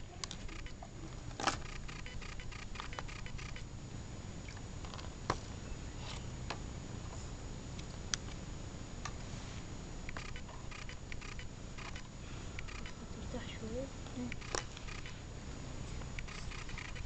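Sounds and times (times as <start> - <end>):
faint high whine: 0.0 - 17.0
steady low hum: 0.0 - 17.0.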